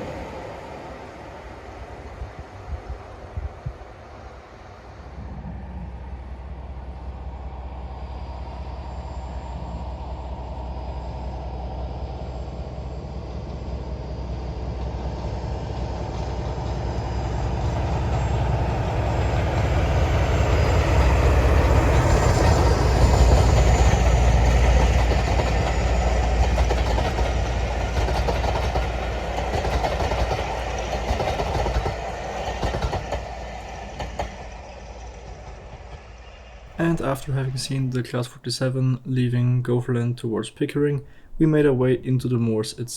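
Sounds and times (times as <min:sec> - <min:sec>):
diesel locomotive engine drone: 0:00.0 - 0:38.4
train rumbling past: 0:00.0 - 0:39.0.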